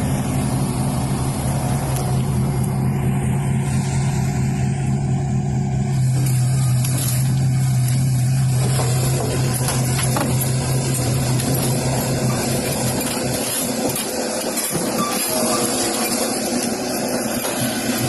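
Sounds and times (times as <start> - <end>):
heavy machine engine running: 0.0 - 18.0.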